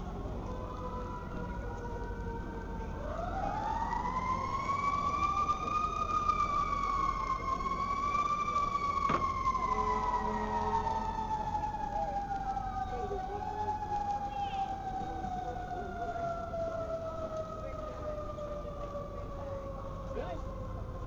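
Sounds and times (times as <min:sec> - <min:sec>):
emergency siren wailing: 0:00.0 - 0:21.0
street noise: 0:00.0 - 0:21.0.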